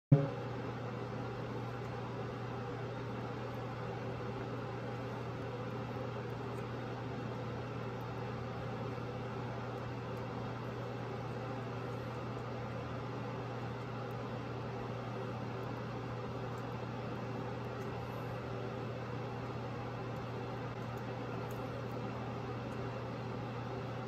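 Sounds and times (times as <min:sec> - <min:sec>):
machine hum with hiss: 0:00.1 - 0:24.0.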